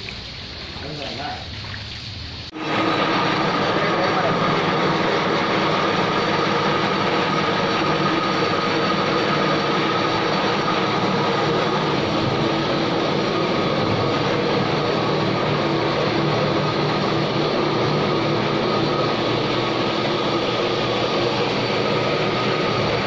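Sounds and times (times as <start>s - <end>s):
machinery droning: 2.4s - 23.0s.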